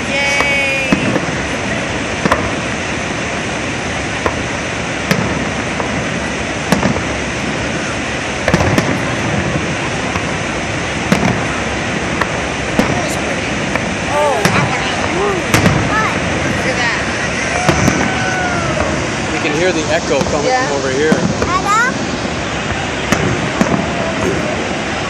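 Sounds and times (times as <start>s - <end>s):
fireworks bangs: 0.0s - 25.0s
steady rushing noise: 0.0s - 25.0s.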